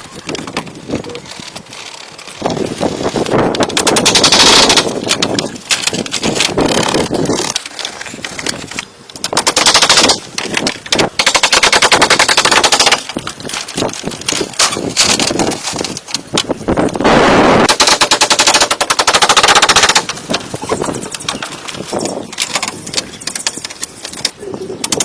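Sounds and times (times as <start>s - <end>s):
power tool rattling on wood: 0.2s - 25.0s.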